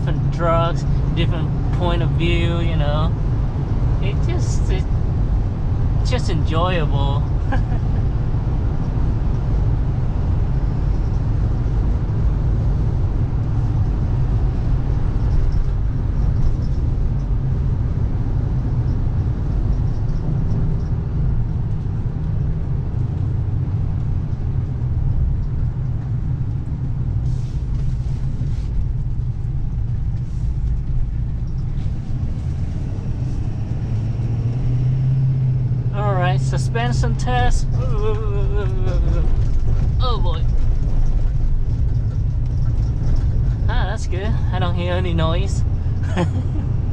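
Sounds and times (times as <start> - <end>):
diesel truck engine running: 0.0 - 46.9
road and tyre rumble: 0.0 - 46.9.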